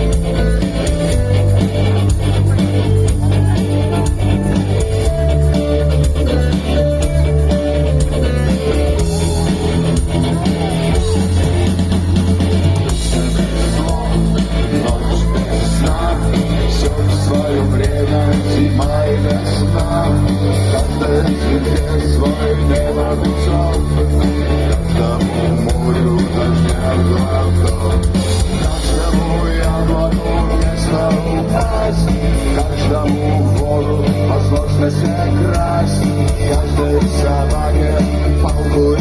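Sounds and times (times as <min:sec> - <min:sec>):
live rock band playing: 0:00.0 - 0:39.0.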